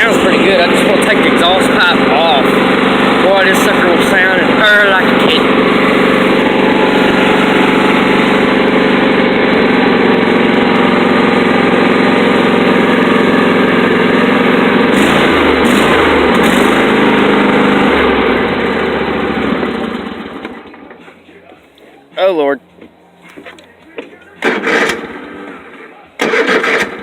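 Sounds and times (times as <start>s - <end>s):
engine idling without exhaust: 0.0s - 27.0s.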